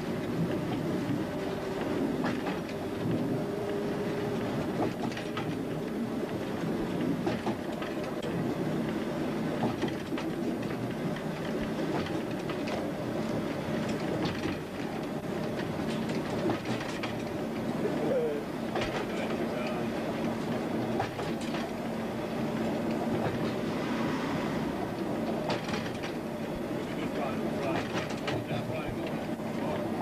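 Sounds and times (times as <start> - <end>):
wheels clicking over rail joints: 0.0 - 3.8, 4.7 - 23.7, 24.8 - 30.0
train rumble: 0.0 - 30.0.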